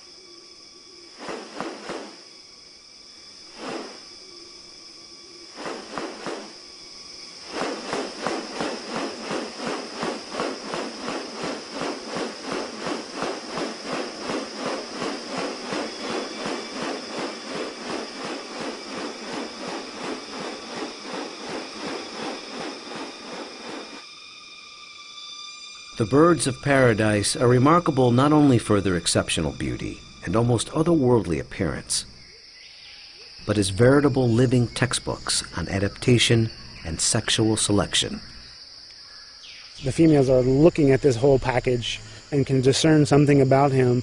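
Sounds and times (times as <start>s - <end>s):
insects buzzing: 0.0s - 44.0s.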